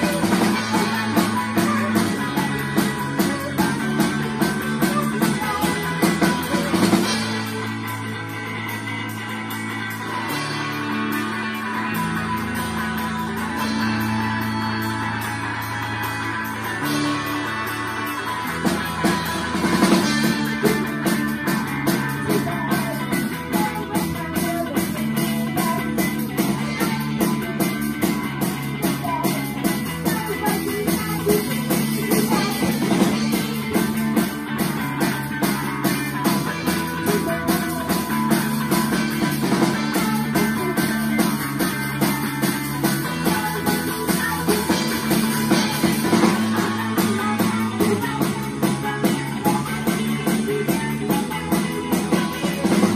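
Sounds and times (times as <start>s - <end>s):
drum kit: 0.0s - 52.9s
guitars: 0.0s - 52.9s.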